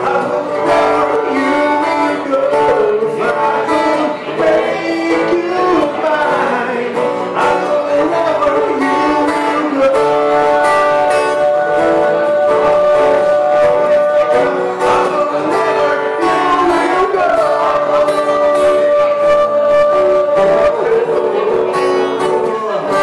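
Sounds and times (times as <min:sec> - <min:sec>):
man singing into microphone: 0:00.0 - 0:23.0
strummed acoustic guitar: 0:00.0 - 0:23.0.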